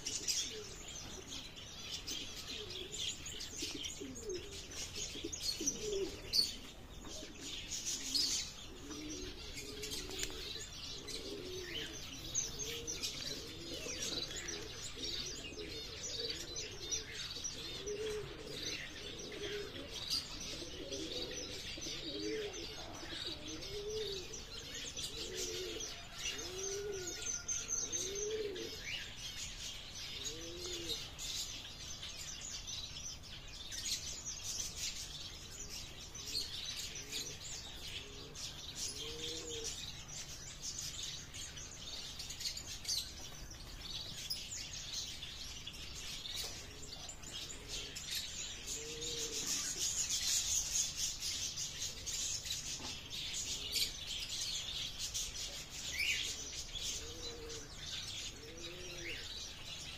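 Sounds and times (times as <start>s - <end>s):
pigeons cooing: 0.0s - 59.9s
small birds chirping: 0.0s - 59.9s.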